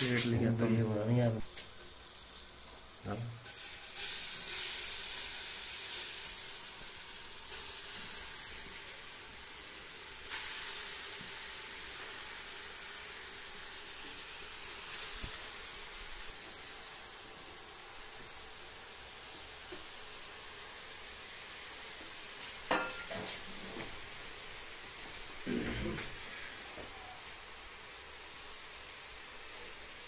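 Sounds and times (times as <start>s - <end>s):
sizzling in a hot pot: 0.0s - 30.0s.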